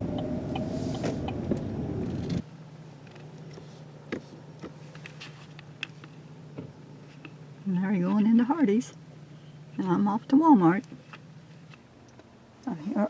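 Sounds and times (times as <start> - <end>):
car road noise: 0.0 - 13.0
low engine hum: 0.0 - 13.0.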